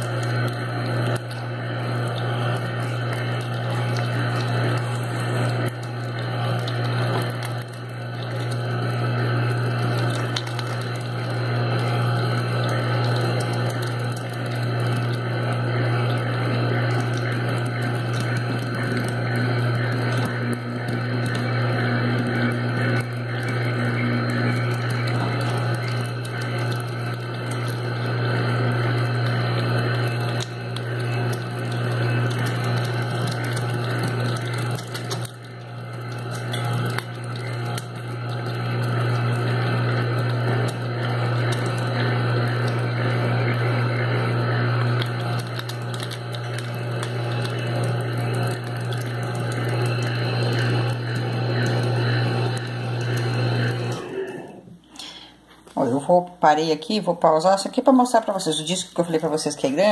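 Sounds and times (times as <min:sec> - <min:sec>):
electric meat grinder humming: 0:00.0 - 0:55.2.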